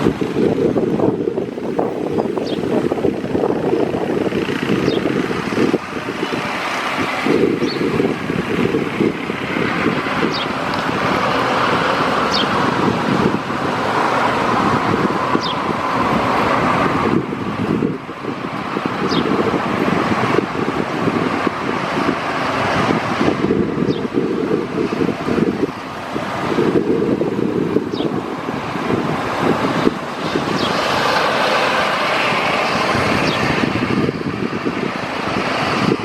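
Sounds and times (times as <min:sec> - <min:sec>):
airliner engine and air noise: 0:00.0 - 0:36.0
wind buffeting microphone: 0:00.0 - 0:36.0.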